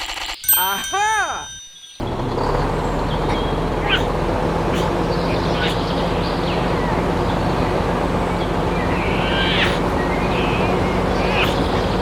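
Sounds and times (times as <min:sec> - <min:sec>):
birds chirping: 0:00.4 - 0:12.0
motor humming: 0:02.0 - 0:12.0.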